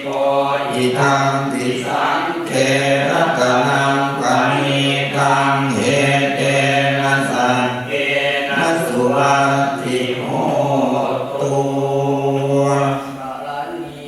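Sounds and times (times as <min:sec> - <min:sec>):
voices chanting on one pitch: 0:00.0 - 0:14.0.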